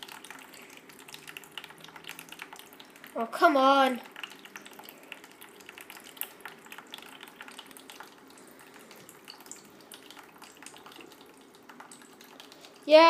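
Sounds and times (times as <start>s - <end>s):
water drips and splashes: 0.0s - 13.0s
water trickling into a sink: 0.0s - 13.0s.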